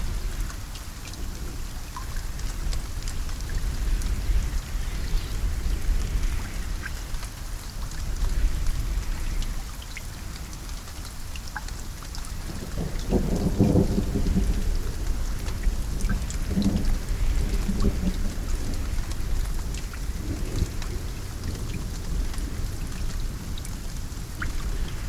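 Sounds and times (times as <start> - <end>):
steady rainfall: 0.0 - 25.0
raindrop ticks: 0.3 - 25.0.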